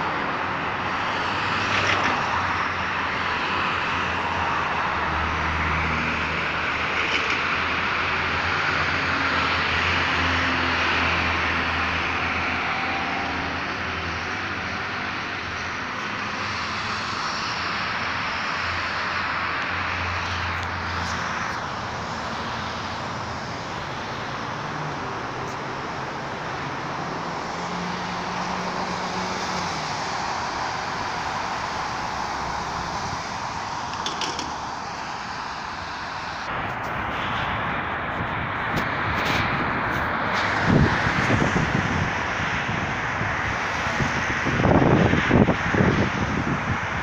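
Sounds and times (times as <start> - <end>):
passing cars: 0.0 - 47.0.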